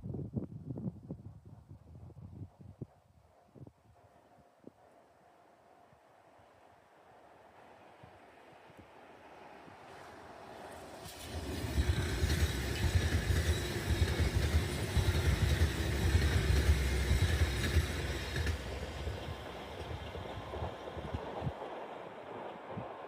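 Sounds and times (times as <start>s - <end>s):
diesel train passing: 4.0s - 23.0s.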